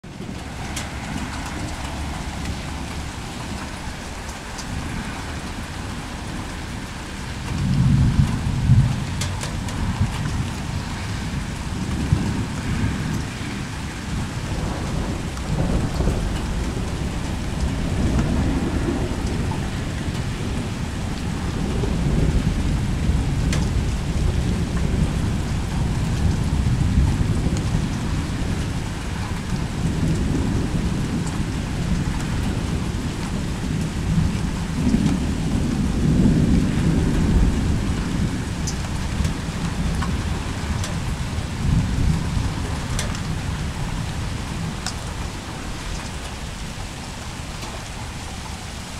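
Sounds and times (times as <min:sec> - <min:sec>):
steady rain: 0:00.0 - 0:48.9
rolling thunder: 0:00.1 - 0:48.3.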